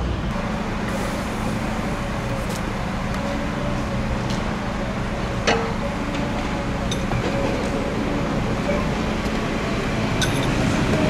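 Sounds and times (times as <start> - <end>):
train engines rumbling: 0.0 - 11.0.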